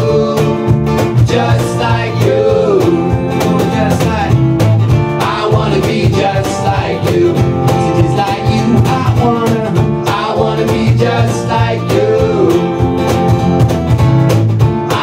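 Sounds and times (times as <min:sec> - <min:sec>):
lead vocal singing: 0:00.0 - 0:13.0, 0:14.8 - 0:15.0
acoustic guitar: 0:00.0 - 0:15.0
cajon beating a rhythm: 0:00.0 - 0:15.0
electric bass guitar: 0:00.0 - 0:15.0.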